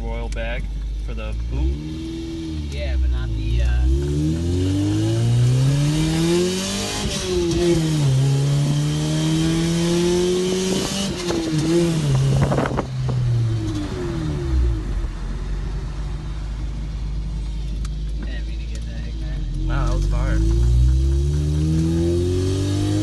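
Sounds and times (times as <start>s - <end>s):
car engine and exhaust accelerating: 0.0s - 23.0s.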